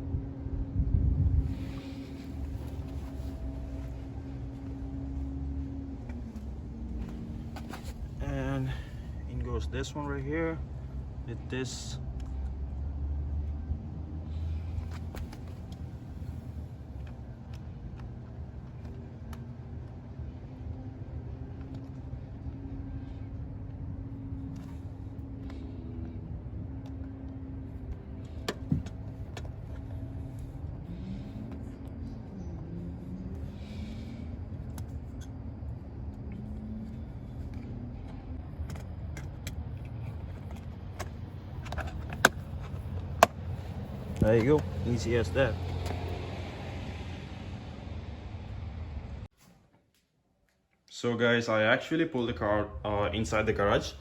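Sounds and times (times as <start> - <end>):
steady low rumble: 0.0 - 49.3.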